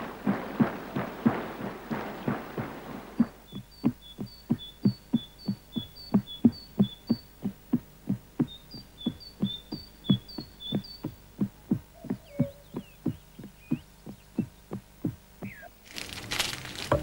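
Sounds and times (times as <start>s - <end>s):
high chirping pips: 0.0s - 17.0s
soft low thumps: 0.0s - 17.0s.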